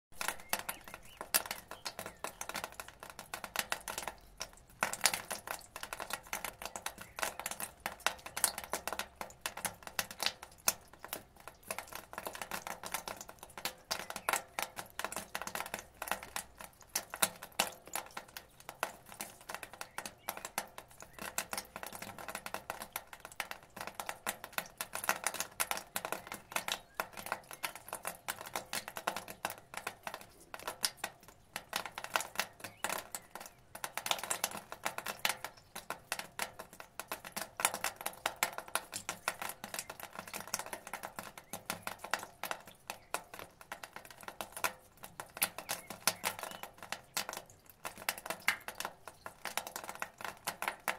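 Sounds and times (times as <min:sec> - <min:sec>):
rainwater dripping from gutter: 0:00.1 - 0:50.9.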